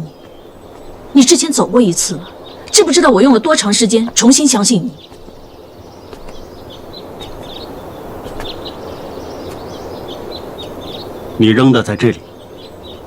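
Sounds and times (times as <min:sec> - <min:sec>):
small birds chirping: 0:00.0 - 0:13.0
steady rushing noise: 0:00.0 - 0:13.0.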